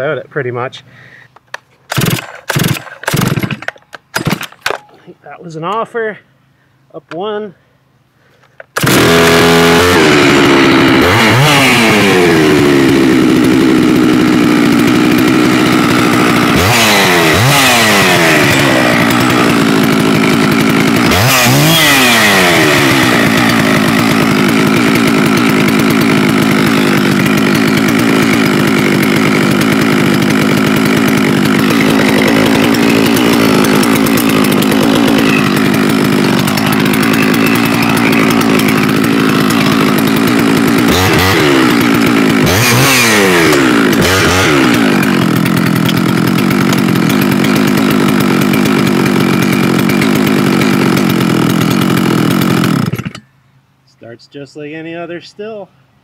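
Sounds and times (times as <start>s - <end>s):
chainsaw revving and idling: 1.5s - 4.9s, 8.8s - 53.3s.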